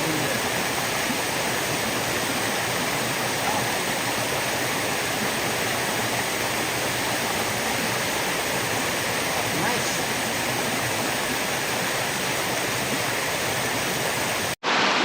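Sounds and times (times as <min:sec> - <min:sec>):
water rushing down a waterfall: 0:00.0 - 0:15.0.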